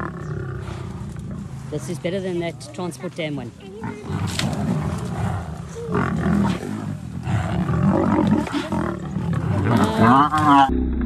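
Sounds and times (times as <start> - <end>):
lions growling and roaring: 0.0 - 3.1, 3.7 - 10.8.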